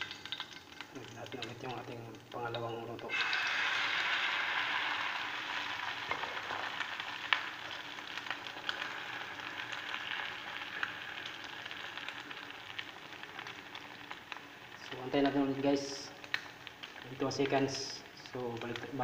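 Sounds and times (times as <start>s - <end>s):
omelette sizzling in oil: 0.0s - 19.0s.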